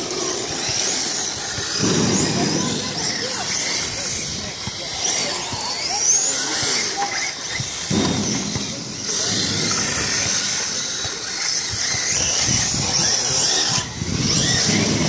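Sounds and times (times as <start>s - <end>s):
toy car motors whining: 0.0s - 15.0s
tyres sliding on concrete: 0.0s - 15.0s.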